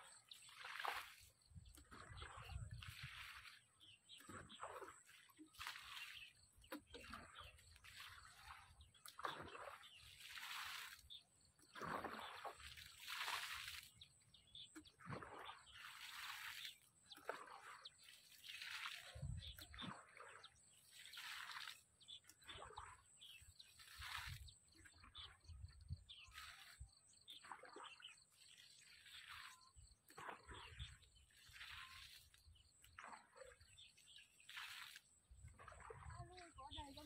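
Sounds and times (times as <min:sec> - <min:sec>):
water sloshing and splashing: 0:00.0 - 0:37.0.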